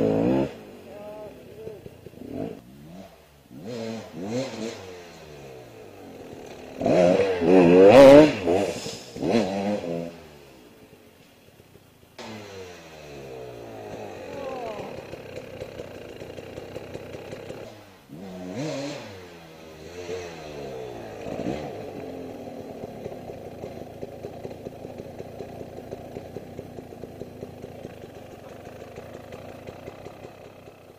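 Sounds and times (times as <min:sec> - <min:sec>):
dirt bike revving: 0:00.0 - 0:11.0, 0:12.2 - 0:30.9
dirt bike engine idling: 0:00.0 - 0:30.9.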